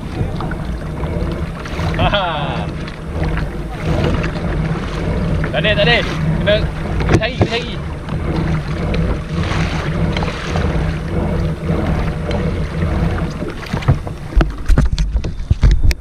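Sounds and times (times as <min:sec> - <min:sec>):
kayak hull rumbling through water: 0:00.0 - 0:16.0
wind on microphone: 0:00.0 - 0:16.0.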